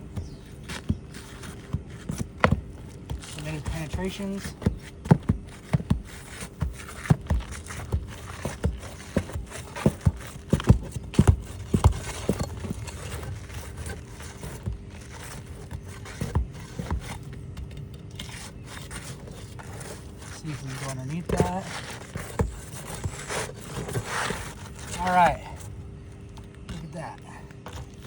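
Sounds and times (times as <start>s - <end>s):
pry bar knocking and scraping: 0.1s - 28.0s.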